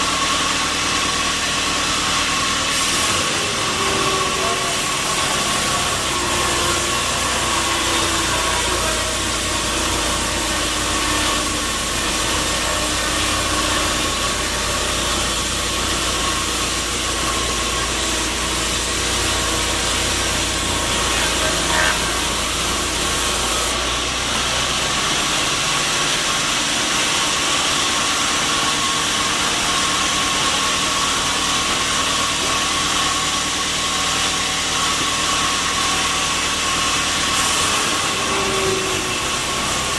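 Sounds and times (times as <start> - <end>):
sawmill machinery din: 0.0 - 39.9.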